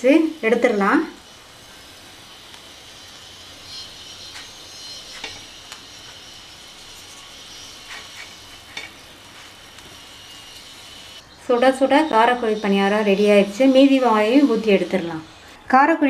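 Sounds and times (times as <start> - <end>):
oil sizzling in a pan: 0.0 - 15.5.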